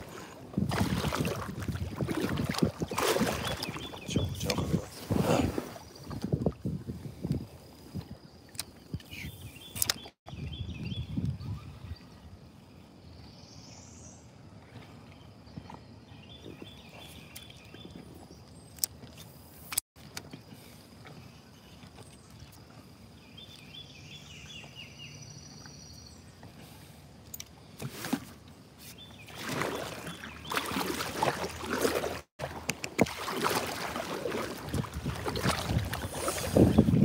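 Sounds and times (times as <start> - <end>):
water lapping against boat hull: 0.0 - 10.2, 14.4 - 19.3, 20.1 - 37.0.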